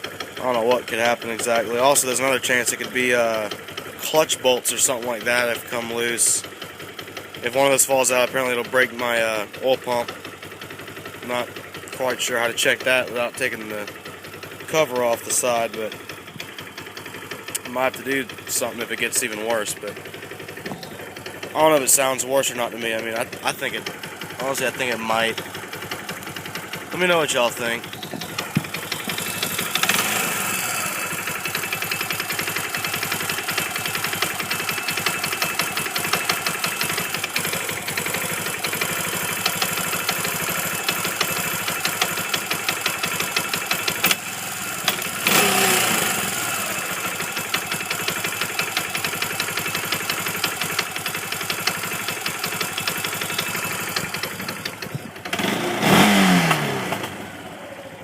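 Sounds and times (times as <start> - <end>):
atv engine with rapid knocking: 0.0 - 58.0.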